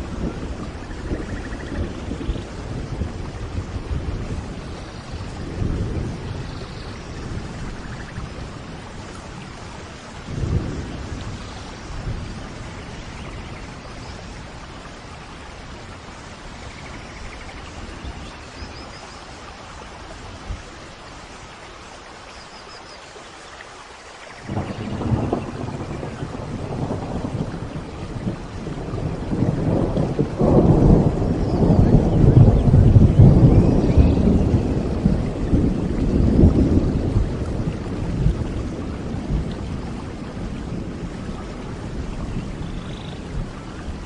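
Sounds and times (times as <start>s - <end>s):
low thunder rolls: 0.0s - 19.0s, 24.4s - 44.0s
steady rain: 0.0s - 44.0s.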